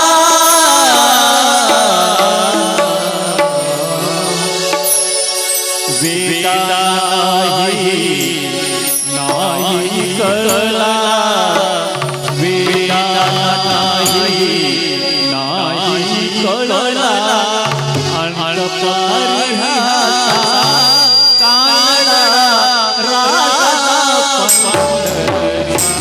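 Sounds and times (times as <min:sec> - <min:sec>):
held accompaniment notes: 0:00.0 - 0:26.0
person singing devotional song: 0:00.0 - 0:26.0
tabla: 0:00.0 - 0:26.0.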